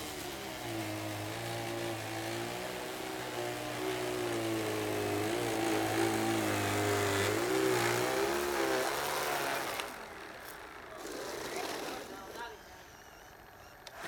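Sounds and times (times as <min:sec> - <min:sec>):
snow blower motor running: 0:00.0 - 0:14.0.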